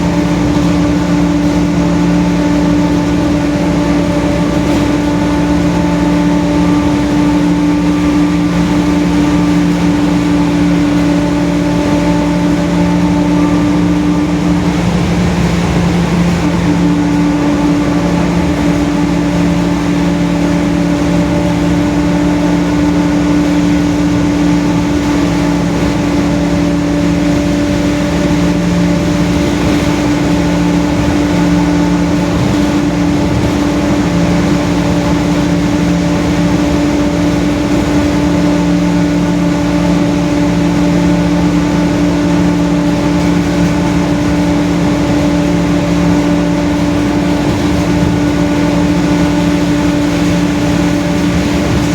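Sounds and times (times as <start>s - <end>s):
bus differential whine: 0.0s - 51.9s
engine and road noise: 0.0s - 51.9s.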